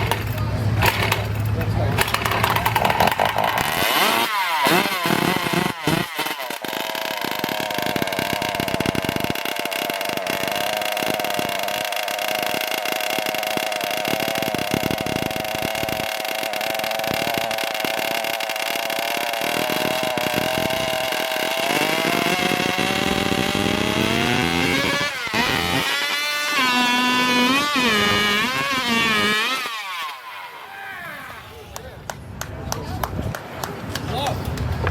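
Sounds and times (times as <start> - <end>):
chainsaw engine screaming: 0.0 - 32.0.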